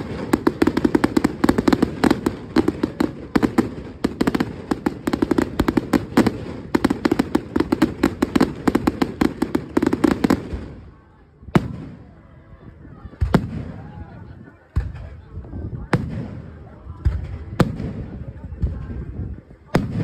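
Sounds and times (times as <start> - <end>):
fireworks cracking and banging: 0.0 - 12.1, 13.1 - 20.0.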